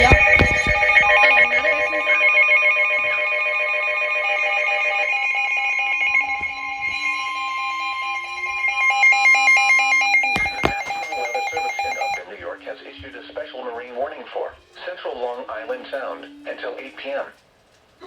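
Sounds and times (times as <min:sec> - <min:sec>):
two-tone alarm: 0:00.0 - 0:16.8.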